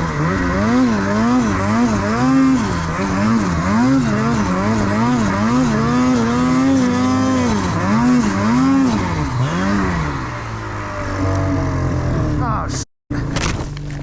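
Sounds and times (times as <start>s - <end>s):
snowmobile engine revving: 0.0s - 12.8s.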